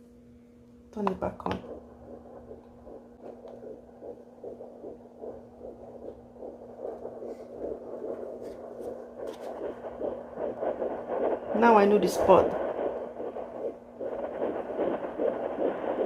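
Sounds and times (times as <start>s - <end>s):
steady hum: 0.0s - 16.0s
fetal heartbeat whooshing pulse: 1.0s - 16.0s.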